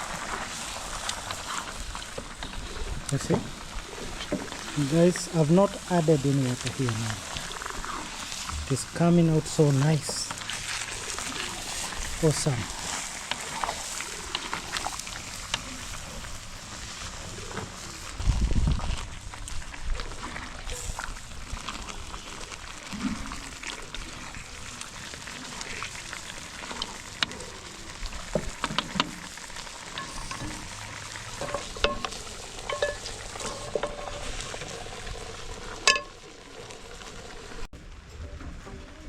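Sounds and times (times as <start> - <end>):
food sizzling in a pan: 0.0 - 37.7.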